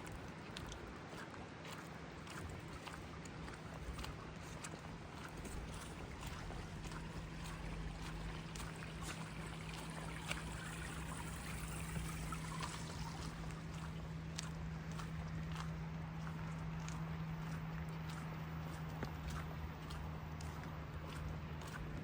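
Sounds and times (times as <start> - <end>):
light footsteps tapping: 0.0 - 22.0
running water: 0.0 - 22.0
steady low hum: 4.2 - 22.0.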